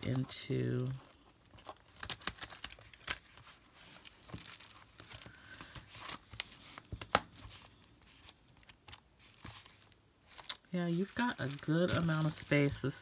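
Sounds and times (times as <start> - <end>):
paper and plastic rustling: 0.0 - 13.0.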